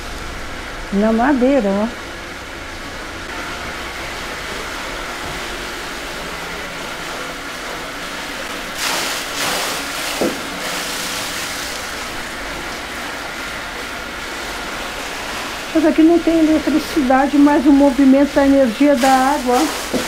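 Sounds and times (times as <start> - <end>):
water rushing at water wheel: 0.0 - 20.0.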